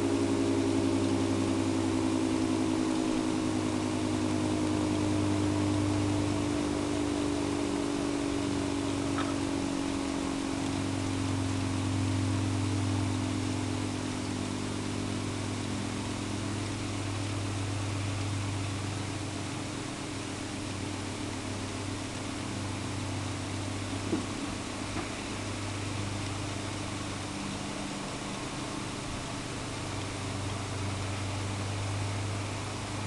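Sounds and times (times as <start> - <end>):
warning siren winding down: 0.0 - 32.7
steady low hum: 0.0 - 33.0.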